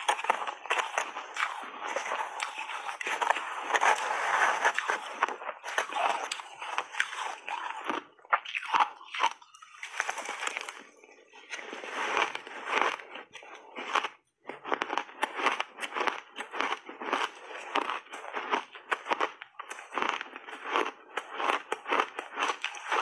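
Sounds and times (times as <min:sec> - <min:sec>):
crunching and chewing shaved ice: 0:00.0 - 0:23.0.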